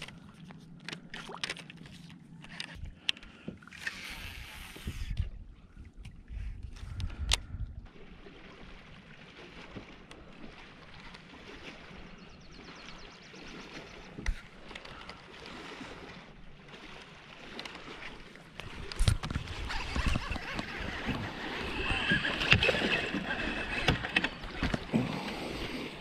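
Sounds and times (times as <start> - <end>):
water lapping and sloshing: 0.0 - 26.0.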